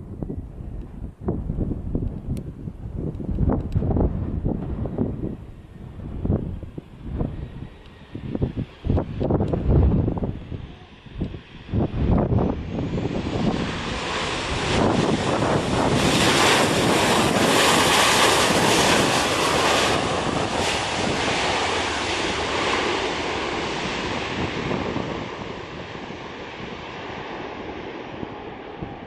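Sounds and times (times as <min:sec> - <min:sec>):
jet airliner landing: 0:00.0 - 0:29.0
wind buffeting microphone: 0:00.0 - 0:29.0.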